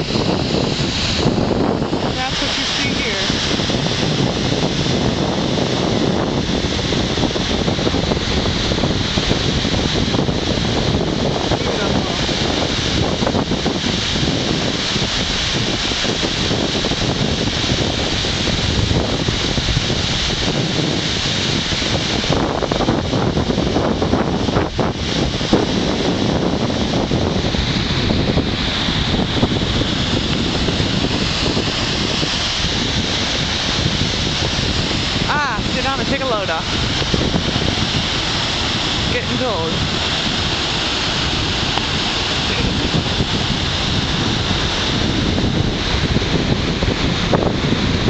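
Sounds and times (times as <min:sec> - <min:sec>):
waterfall rushing: 0:00.0 - 0:48.0
wind buffeting microphone: 0:00.0 - 0:48.0.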